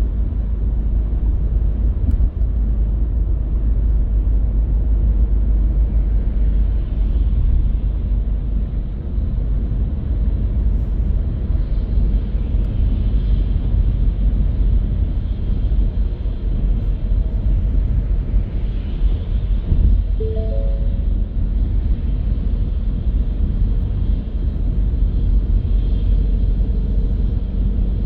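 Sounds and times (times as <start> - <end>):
road and tyre rumble: 0.0 - 20.2, 20.9 - 28.0.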